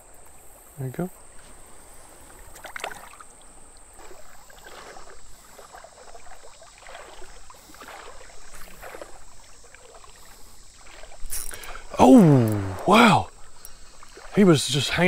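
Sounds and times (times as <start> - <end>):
water splashing from wading: 1.2 - 15.0.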